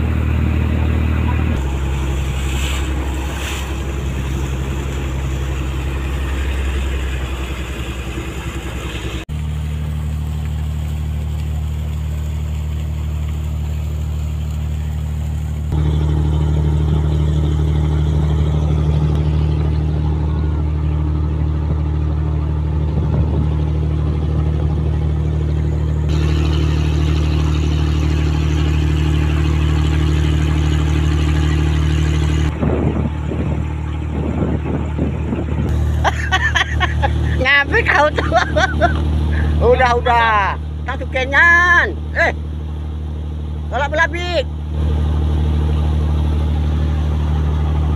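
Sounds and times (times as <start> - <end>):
boat engine droning: 0.0 - 47.9.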